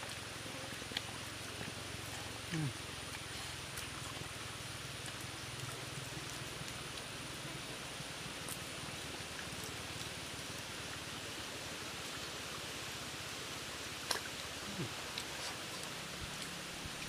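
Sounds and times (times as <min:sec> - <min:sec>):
stream running over rock: 0:00.0 - 0:17.0.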